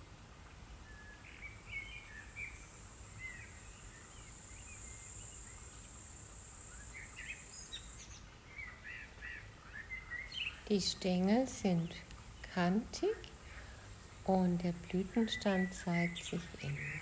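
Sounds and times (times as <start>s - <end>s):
small birds chirping: 0.8s - 17.0s.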